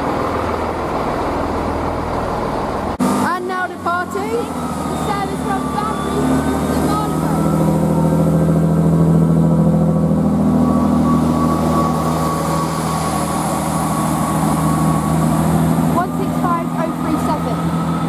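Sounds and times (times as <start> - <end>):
diesel train engine drone: 0.0 - 18.0
high whine: 2.7 - 18.0.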